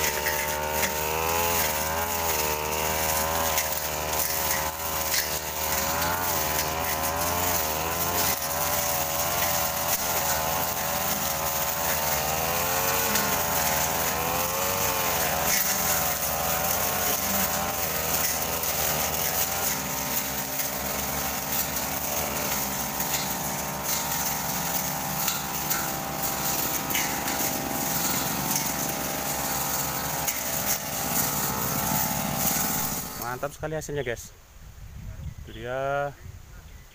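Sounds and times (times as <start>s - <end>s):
brush cutter engine revving: 0.0s - 33.9s.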